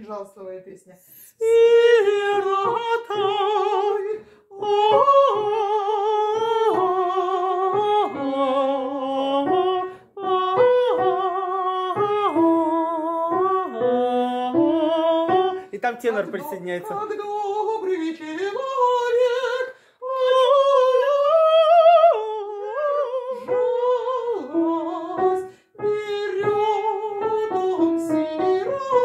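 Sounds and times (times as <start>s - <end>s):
person singing slow melody: 1.3s - 15.8s, 16.9s - 29.0s.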